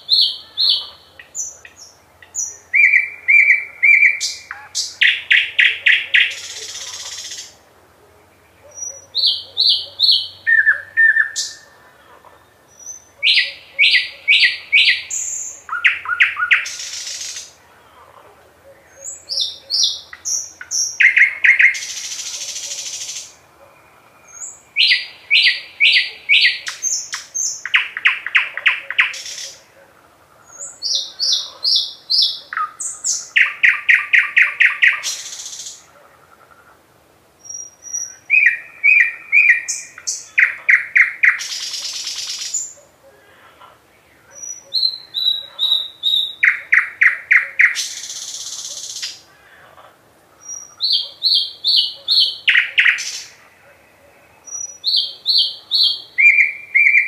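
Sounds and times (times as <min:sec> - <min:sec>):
nightingale singing: 0:00.0 - 0:36.0, 0:37.4 - 0:43.3, 0:43.9 - 0:49.3, 0:50.3 - 0:57.0.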